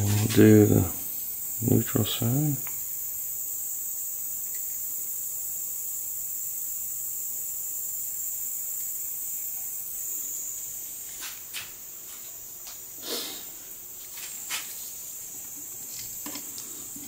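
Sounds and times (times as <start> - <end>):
soldering iron hiss: 0.0 - 17.0.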